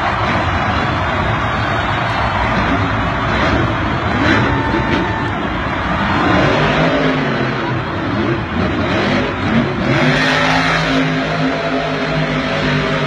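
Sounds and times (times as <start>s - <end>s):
arena noise: 0.0s - 13.0s
truck engine revving: 0.0s - 13.0s.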